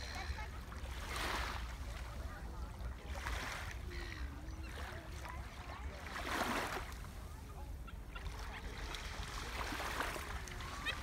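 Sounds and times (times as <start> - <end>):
calm sea water: 0.0 - 11.0.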